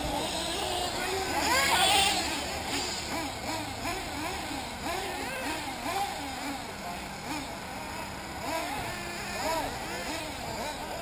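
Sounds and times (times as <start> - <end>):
small engines revving: 0.0 - 11.0.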